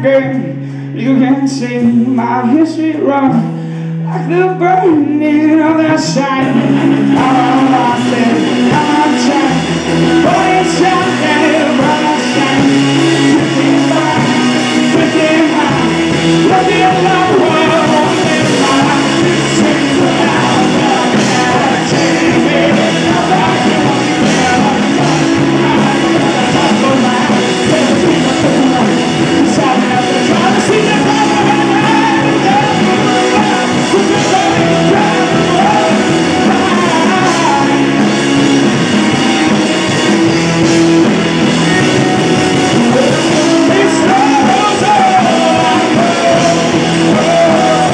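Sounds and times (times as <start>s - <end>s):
live rock band playing: 0.0s - 47.9s.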